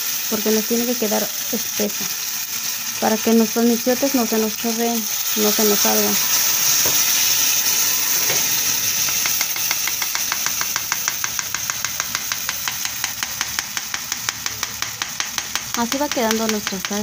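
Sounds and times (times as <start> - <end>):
sauce sizzling in a pan: 0.0 - 17.0.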